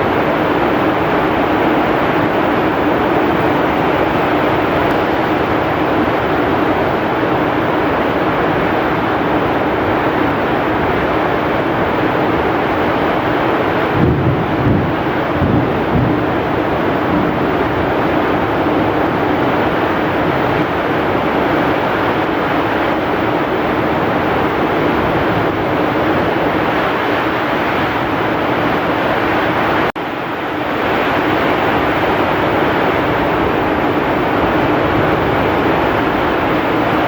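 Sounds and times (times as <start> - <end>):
heavy rain: 0.0 - 37.0
strong wind: 0.0 - 37.0.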